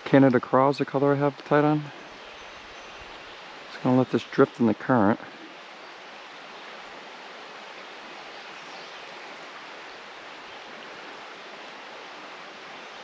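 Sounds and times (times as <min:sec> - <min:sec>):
river water rushing: 0:01.0 - 0:13.0.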